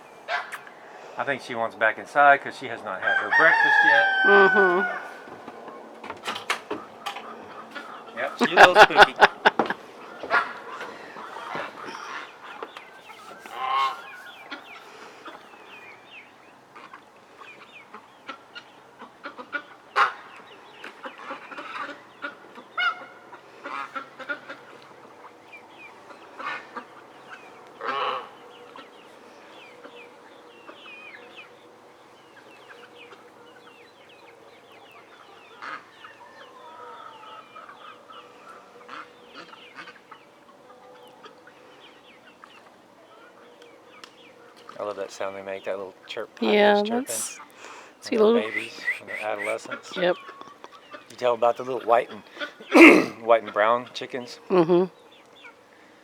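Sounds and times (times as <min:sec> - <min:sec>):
young birds chirping: 0:00.0 - 0:56.0
chickens clucking: 0:00.3 - 0:55.6.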